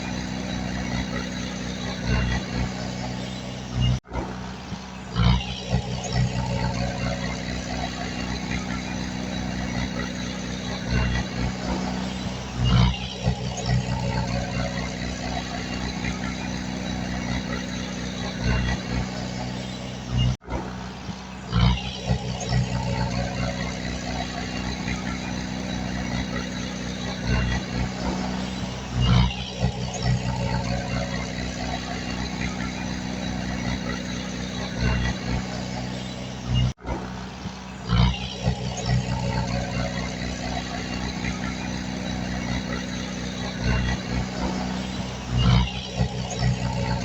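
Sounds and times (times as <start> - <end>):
diesel machinery droning: 0.0 - 47.0.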